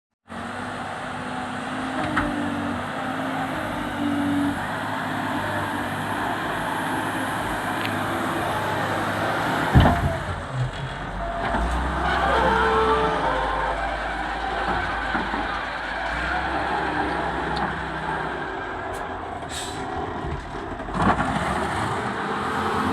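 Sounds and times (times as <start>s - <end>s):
diesel engine running: 0.3s - 22.9s.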